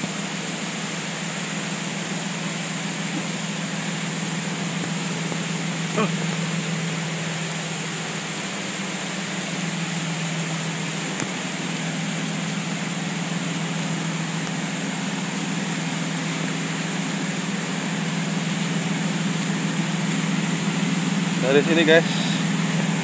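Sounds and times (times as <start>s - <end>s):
water rushing: 0.0s - 23.0s
water turbine humming: 0.0s - 23.0s.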